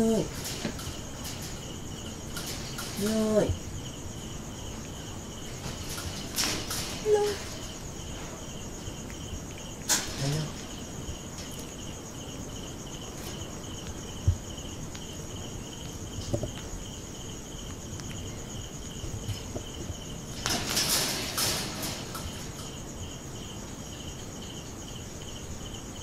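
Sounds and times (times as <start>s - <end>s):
knocks and rattles: 0.0s - 15.3s, 18.1s - 23.9s
crickets chirping: 0.0s - 26.0s.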